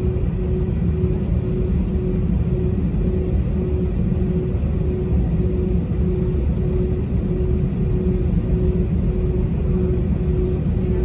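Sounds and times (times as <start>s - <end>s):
airplane cabin engine rumble: 0.0s - 11.0s
pulsing humming tone: 0.0s - 11.0s.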